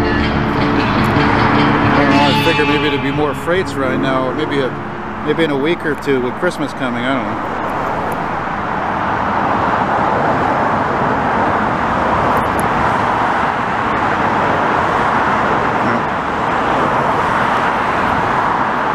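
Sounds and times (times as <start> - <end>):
road traffic rushing past: 0.0 - 18.9.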